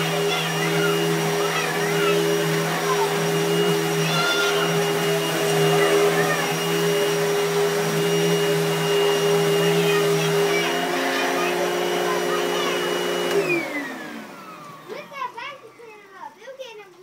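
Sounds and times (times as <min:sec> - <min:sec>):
vacuum cleaner running: 0:00.0 - 0:16.3.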